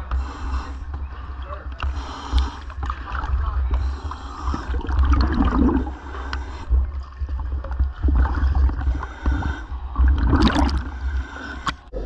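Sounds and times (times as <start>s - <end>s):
low rumble and bubbling: 0.0s - 12.0s.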